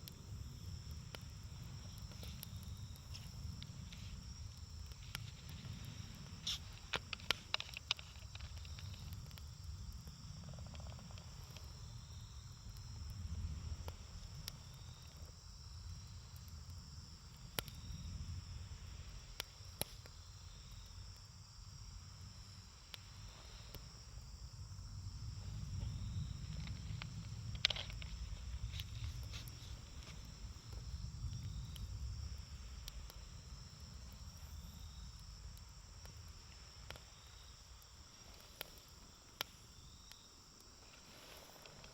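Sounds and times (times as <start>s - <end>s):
campfire crackling and popping: 0.0s - 41.9s
crickets chirping: 0.0s - 41.9s.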